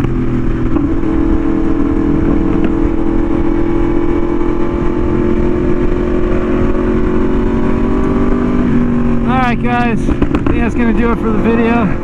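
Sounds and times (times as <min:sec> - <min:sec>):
motorcycle engine steady exhaust note: 0:00.0 - 0:12.0.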